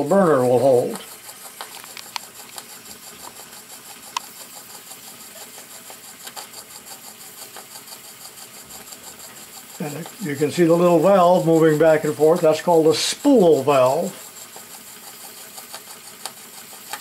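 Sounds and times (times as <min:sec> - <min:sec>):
model steam engine running: 0:00.0 - 0:17.0.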